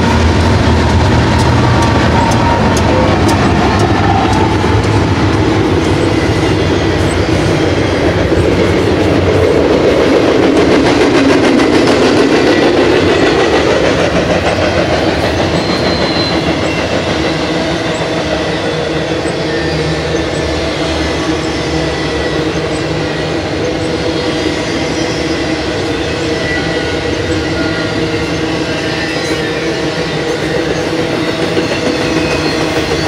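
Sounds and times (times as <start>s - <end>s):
diesel locomotives droning: 0.0s - 33.0s
train wheels on rails: 0.0s - 33.0s.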